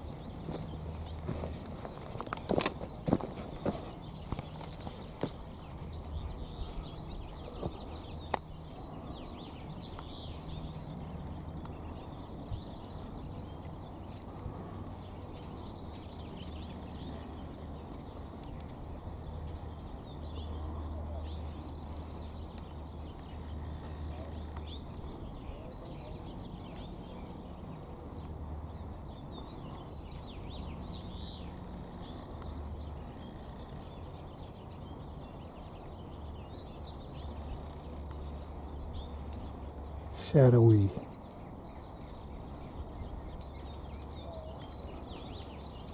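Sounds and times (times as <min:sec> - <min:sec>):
small birds chirping high: 0:00.0 - 0:45.9.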